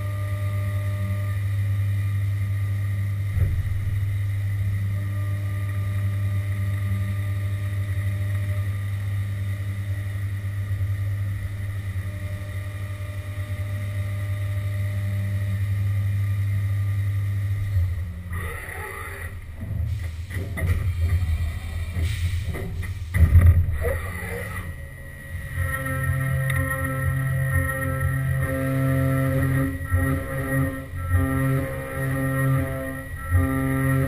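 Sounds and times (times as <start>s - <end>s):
milling machine hum and whine: 0.0s - 34.0s.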